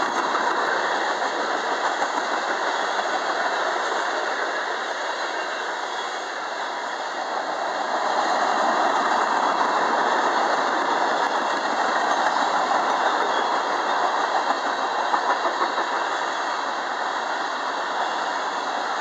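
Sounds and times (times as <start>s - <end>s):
steel wheels running on rails: 0.0s - 19.0s.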